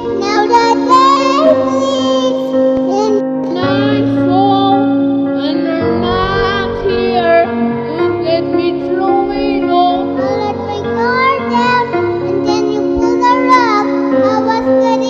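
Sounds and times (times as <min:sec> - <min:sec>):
boy singing a pop ballad: 0:00.0 - 0:15.0
karaoke backing track: 0:00.0 - 0:15.0.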